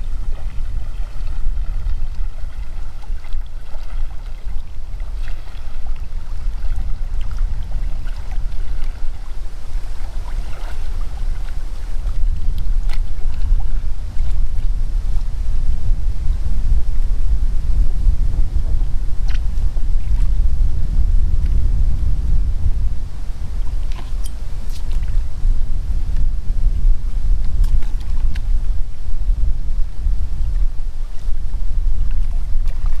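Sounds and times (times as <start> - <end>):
water lapping at a kayak: 0.0 - 33.0
wind rumbling on microphone: 0.0 - 33.0.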